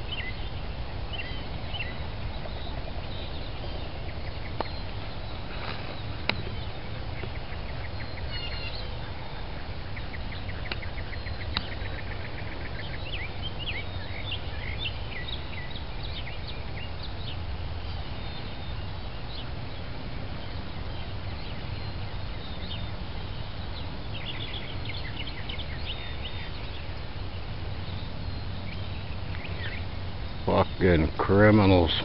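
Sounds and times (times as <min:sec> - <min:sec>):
birds chirping: 0:00.0 - 0:32.0
low outdoor rumble: 0:00.0 - 0:32.0.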